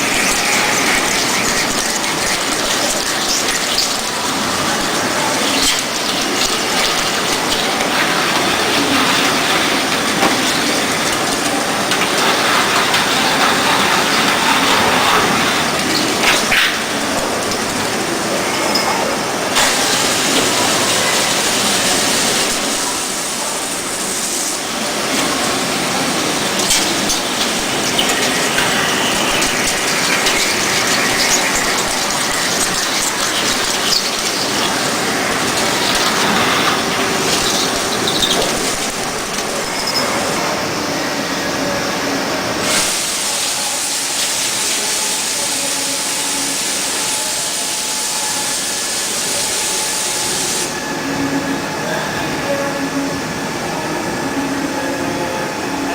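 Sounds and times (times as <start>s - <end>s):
drilling machine drilling metal: 0.0s - 52.4s.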